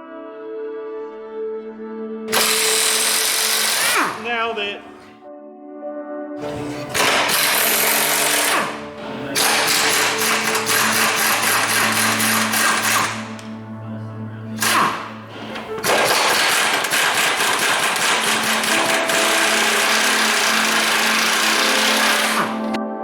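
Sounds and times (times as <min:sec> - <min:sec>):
background music: 0:00.0 - 0:23.0
power tool rattling: 0:02.3 - 0:05.2, 0:06.4 - 0:13.8, 0:14.4 - 0:22.8.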